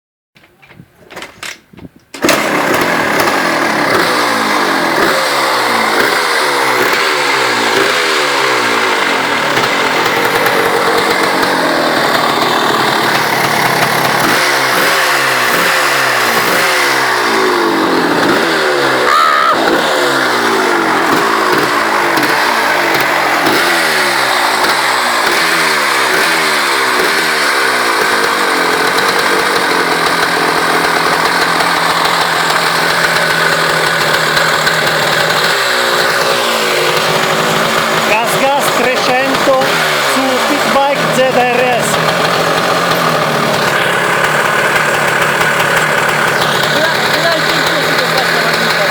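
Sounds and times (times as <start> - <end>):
two-stroke engine revving: 2.2 - 48.9.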